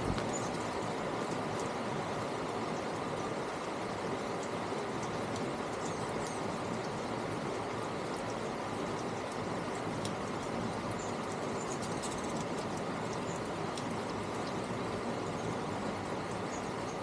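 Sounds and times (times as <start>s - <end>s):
outdoor hiss-like rush: 0.0s - 17.0s.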